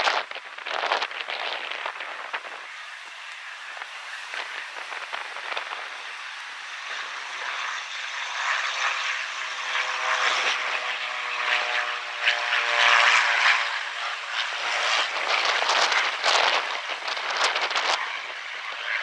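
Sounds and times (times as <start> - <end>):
propeller plane engine: 0.0 - 19.0.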